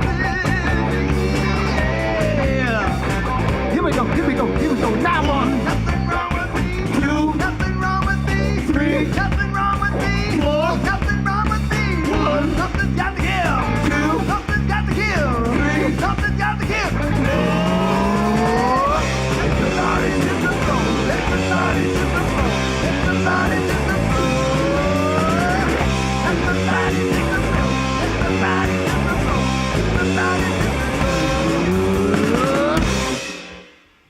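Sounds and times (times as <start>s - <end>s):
electric guitar lead: 0.0s - 33.6s
rock band playing: 0.0s - 34.0s.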